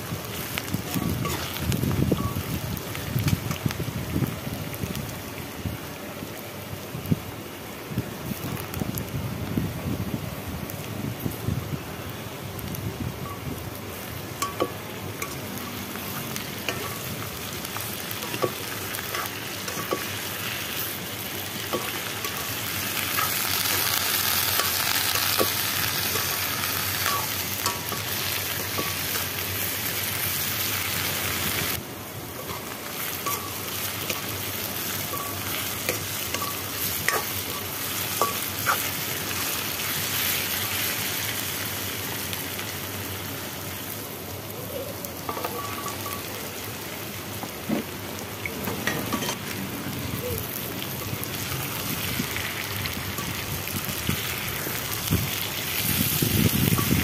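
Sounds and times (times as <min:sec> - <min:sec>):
vegetables sizzling in a wok: 0:00.0 - 0:57.0.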